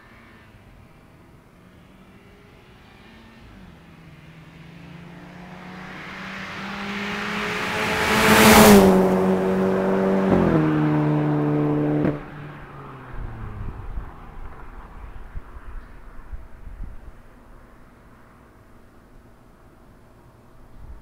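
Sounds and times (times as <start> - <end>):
car driving past: 1.5 - 19.3.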